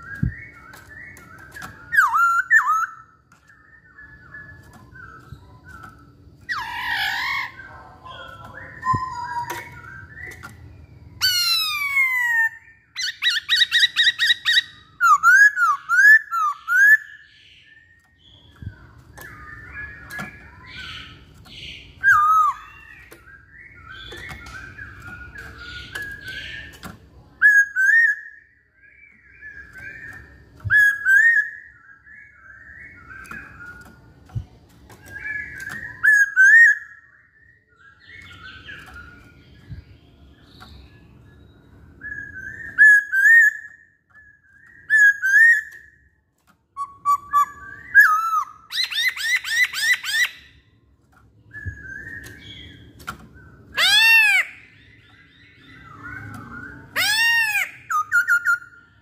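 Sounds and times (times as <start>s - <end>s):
bird singing whistled phrases: 0.0s - 34.2s, 35.0s - 46.1s, 46.8s - 50.6s, 51.4s - 59.0s.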